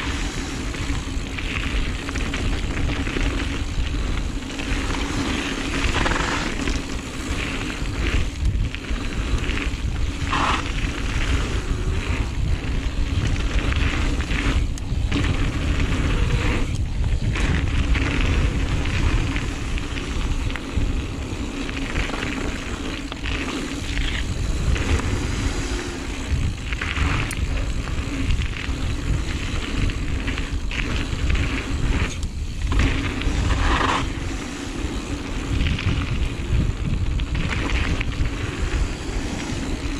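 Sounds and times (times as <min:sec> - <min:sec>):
bike rattling over bumps: 0:00.0 - 0:39.9
bike tyres rolling on dirt: 0:00.0 - 0:39.9
wind over microphone: 0:00.0 - 0:39.9.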